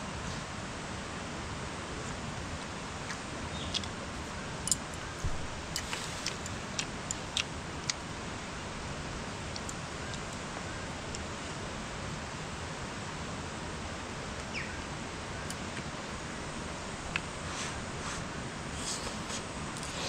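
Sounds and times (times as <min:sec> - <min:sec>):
stream rushing: 0:00.1 - 0:20.0.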